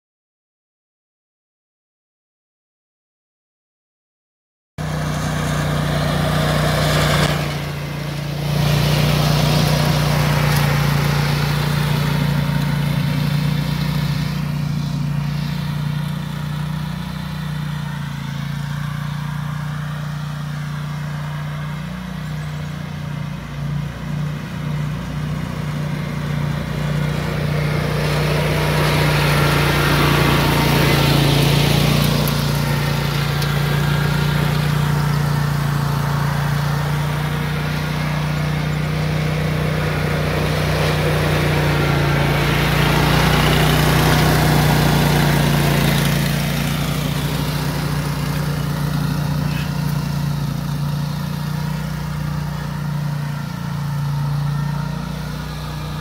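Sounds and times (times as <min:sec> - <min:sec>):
riding mower engine running: 0:04.8 - 0:56.0.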